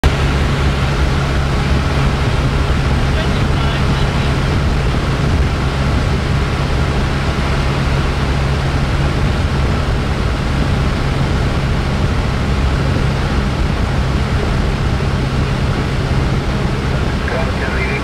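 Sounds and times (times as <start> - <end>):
airplane engine and propeller drone: 0.0 - 18.0.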